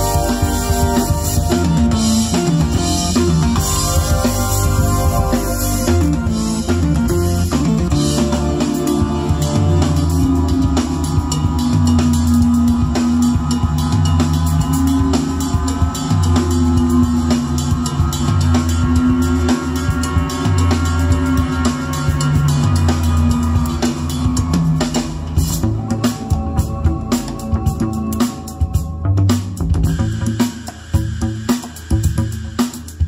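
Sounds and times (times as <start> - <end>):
rock music with drums and guitar: 0.0 - 33.0.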